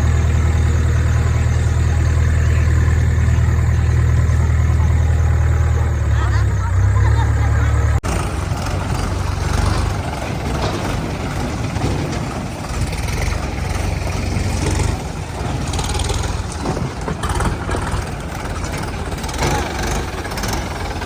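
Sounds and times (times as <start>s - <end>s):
heavy diesel engine rumbling: 0.0s - 21.0s.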